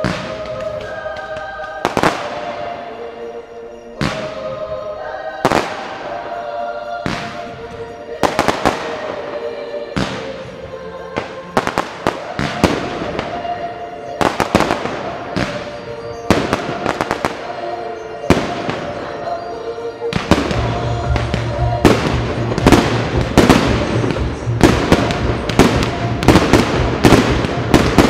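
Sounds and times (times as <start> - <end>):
fireworks bursting and crackling: 0.0 - 2.9, 5.4 - 6.2, 7.0 - 19.3, 20.1 - 28.0
music playing: 0.0 - 28.0.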